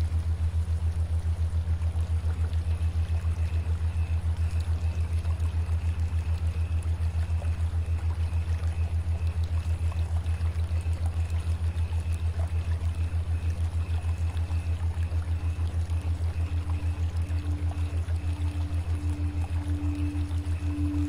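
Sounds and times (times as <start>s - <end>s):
pulsing low drone: 0.0s - 21.0s.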